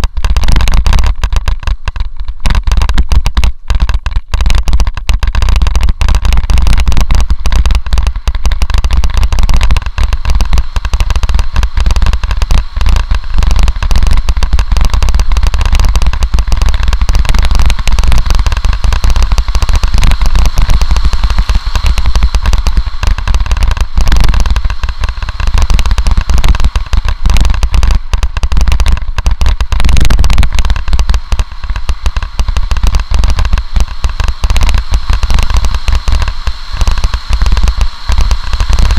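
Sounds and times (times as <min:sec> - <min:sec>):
wind rumble on microphone: 0:00.0 - 0:38.9.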